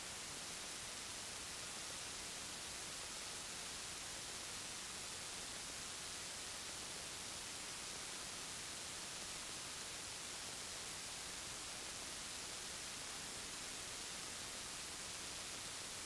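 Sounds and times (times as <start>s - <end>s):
faint electronic static hiss: 0.0s - 16.0s.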